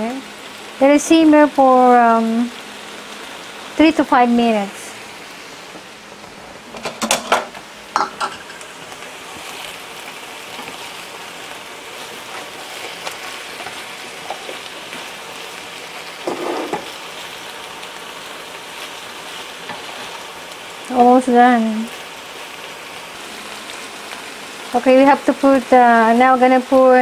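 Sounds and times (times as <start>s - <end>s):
vegetables sizzling in a skillet: 0.0s - 27.0s.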